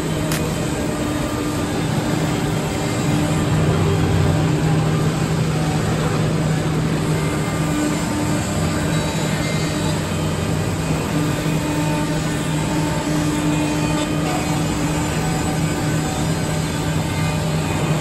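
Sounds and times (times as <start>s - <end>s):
woodworking machine running: 0.0s - 18.0s.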